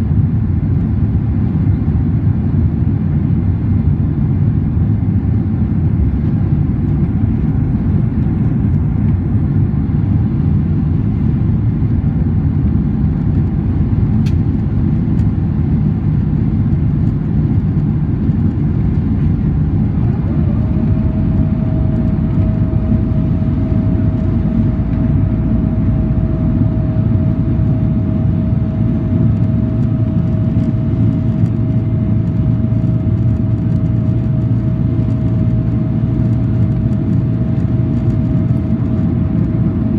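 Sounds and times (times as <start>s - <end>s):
airliner cabin engine rumble: 0.0s - 39.9s
steady hum: 0.0s - 39.9s.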